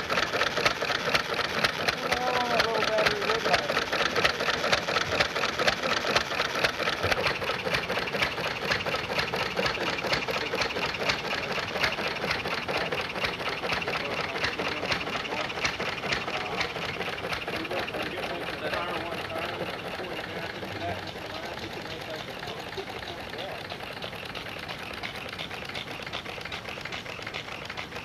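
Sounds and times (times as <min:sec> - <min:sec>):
stationary engine clattering: 0:00.0 - 0:28.0.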